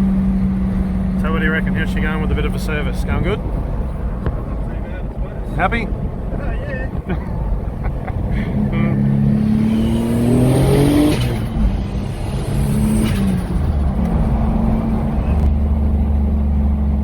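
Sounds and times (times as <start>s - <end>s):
car engine accelerating: 0.0s - 5.2s, 5.9s - 17.0s.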